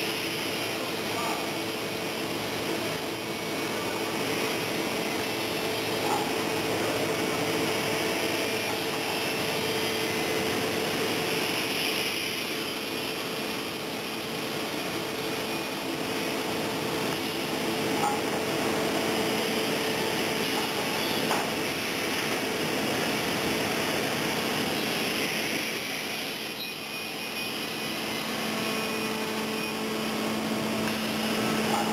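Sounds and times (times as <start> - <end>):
woodworking machinery drone: 0.0 - 31.9.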